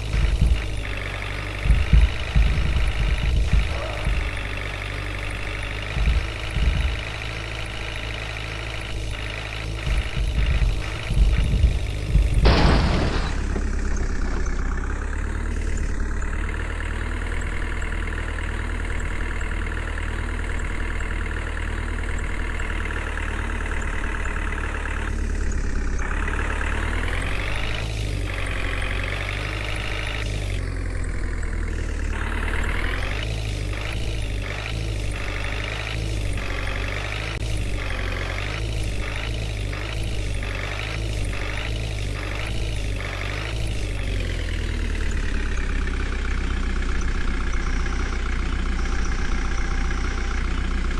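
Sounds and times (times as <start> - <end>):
heavy vehicle engine running: 0.0 - 50.9.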